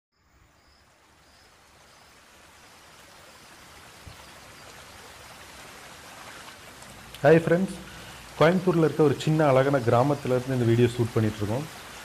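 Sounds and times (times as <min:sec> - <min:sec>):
river water rushing: 0:00.3 - 0:12.0.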